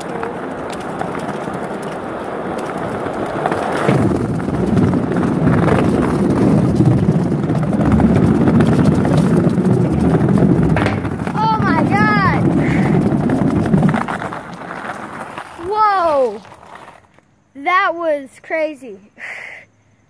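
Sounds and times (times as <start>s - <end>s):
skateboard wheels rolling: 0.0s - 17.5s.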